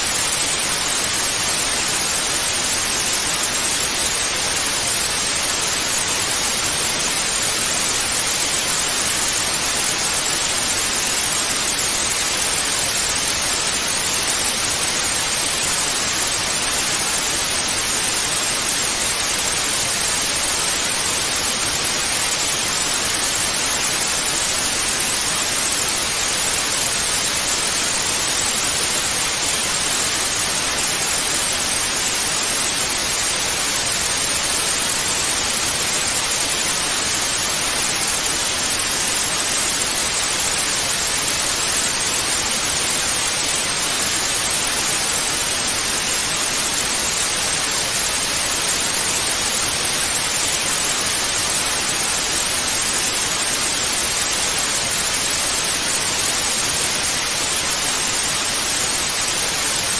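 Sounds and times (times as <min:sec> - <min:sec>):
tv static hiss: 0:00.0 - 0:59.9.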